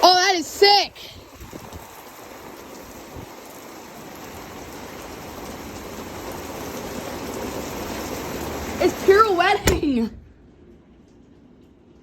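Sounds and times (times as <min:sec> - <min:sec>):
heavy rain and wind: 0:00.0 - 0:12.0.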